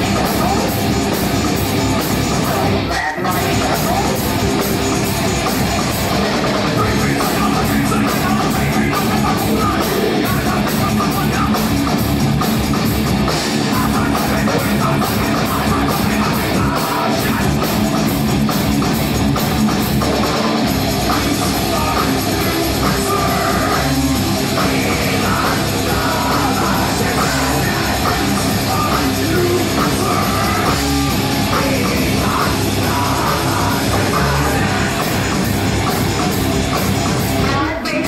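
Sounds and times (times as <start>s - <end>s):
metal band playing live: 0.0s - 38.0s.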